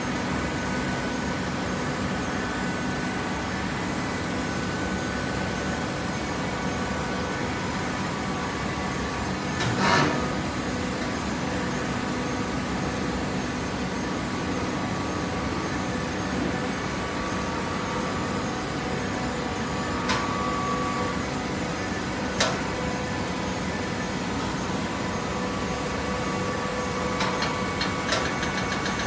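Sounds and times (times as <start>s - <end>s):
baler machine hum and hiss: 0.0s - 29.0s.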